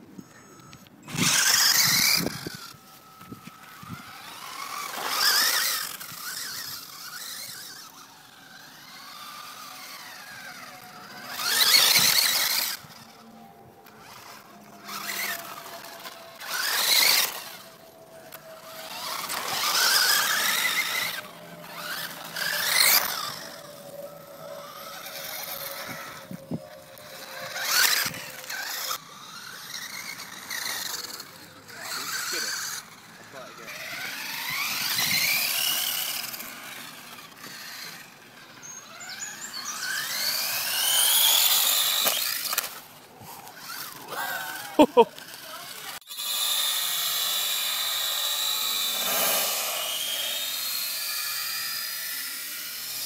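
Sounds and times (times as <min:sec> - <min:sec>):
toy car motor whining: 0:00.0 - 0:53.0
tyres on rough tarmac: 0:00.0 - 0:53.0.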